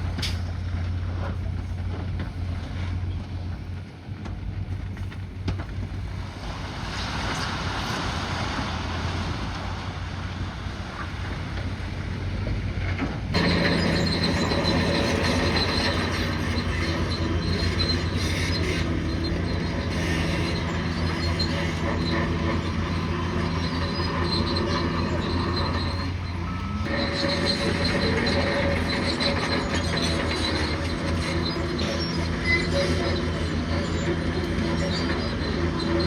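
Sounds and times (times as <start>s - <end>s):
crawler tracks squealing and clanking: 0.0s - 6.4s, 7.0s - 36.0s
bulldozer diesel engine running: 0.0s - 36.0s.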